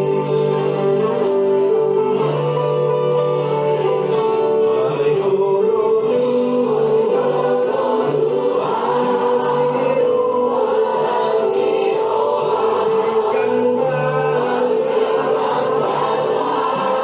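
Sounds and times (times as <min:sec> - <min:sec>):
choir singing slow song: 0:00.0 - 0:02.6, 0:03.5 - 0:17.0.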